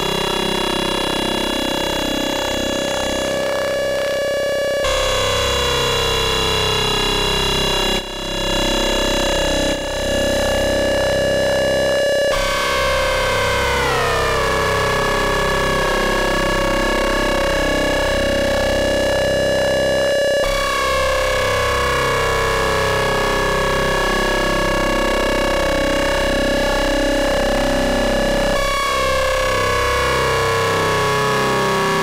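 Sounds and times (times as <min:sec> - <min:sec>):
buzzy synthesizer drone: 0:00.0 - 0:32.0.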